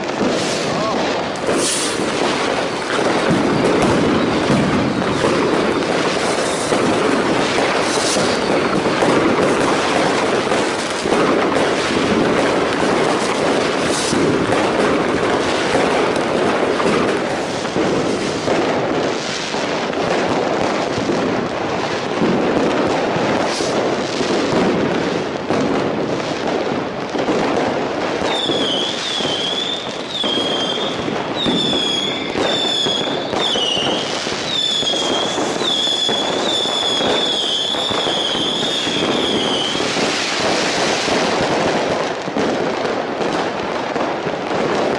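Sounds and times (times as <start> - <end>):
firework whistling tone: 0.0 - 20.9, 22.7 - 25.4, 28.2 - 41.7
fireworks bangs and crackle: 0.0 - 44.9.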